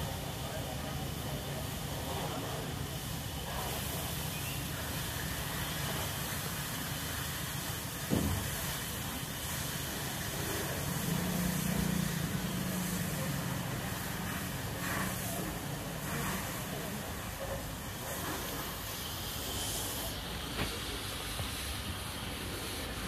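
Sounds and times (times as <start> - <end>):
water hissing into steam: 0.0 - 23.0.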